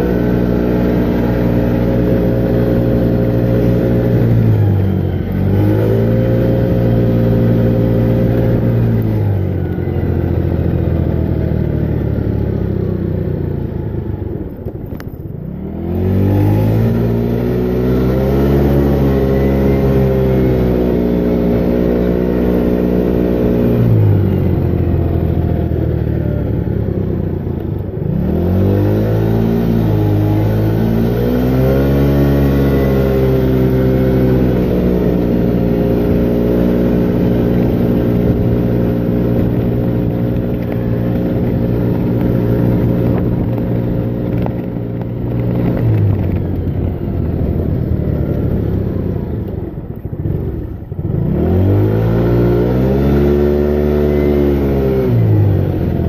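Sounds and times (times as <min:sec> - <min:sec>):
moped engine running: 0:00.0 - 0:56.0.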